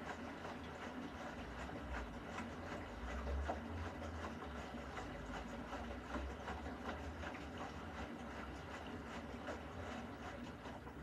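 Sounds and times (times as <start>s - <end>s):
washing machine drum humming: 0.0s - 11.0s.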